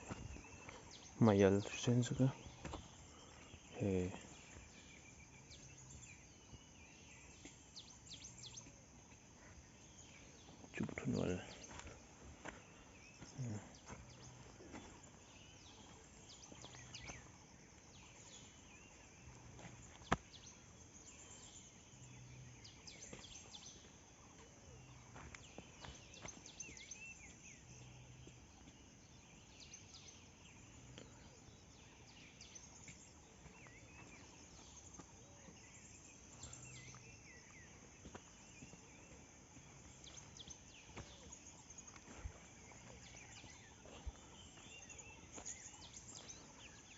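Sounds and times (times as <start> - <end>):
bird chirps: 0.0 - 46.9.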